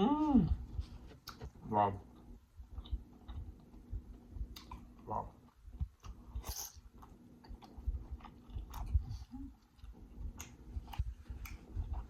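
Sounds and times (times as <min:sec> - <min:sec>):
person chewing food: 0:00.5 - 0:12.0.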